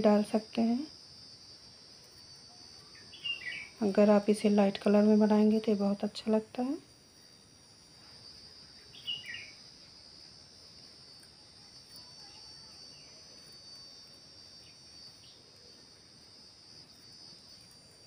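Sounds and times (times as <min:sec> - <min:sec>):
high-pitched insect drone: 0:00.0 - 0:18.0
insect chirp: 0:00.0 - 0:18.0.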